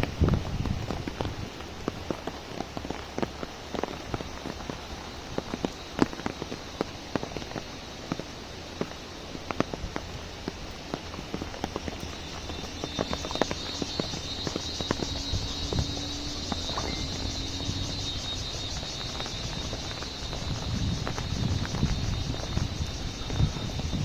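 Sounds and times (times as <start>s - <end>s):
heavy rain on an umbrella: 0.0s - 24.0s.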